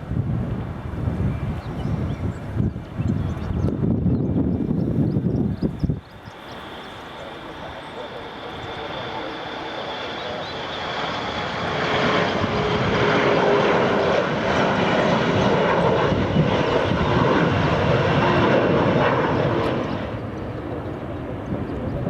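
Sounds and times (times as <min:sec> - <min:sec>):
airliner engines roaring past: 0:00.0 - 0:22.0.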